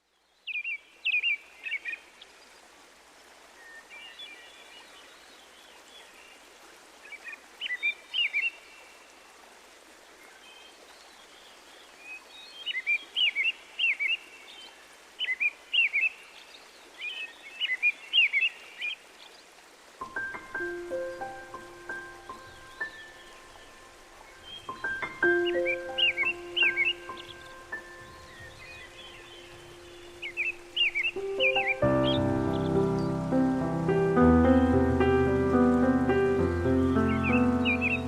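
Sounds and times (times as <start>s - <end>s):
songbirds chirping: 0.0s - 9.5s, 10.1s - 38.0s
steady background hiss: 0.0s - 38.0s.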